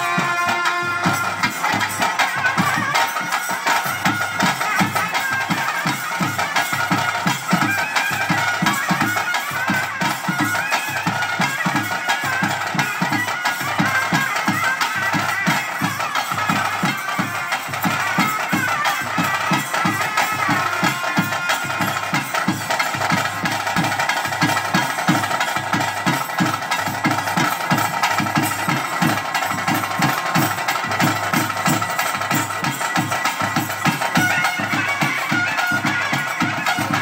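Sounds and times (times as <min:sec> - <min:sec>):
drums beating fast rhythm: 0:00.0 - 0:37.0
high wind instrument melody: 0:00.0 - 0:37.0.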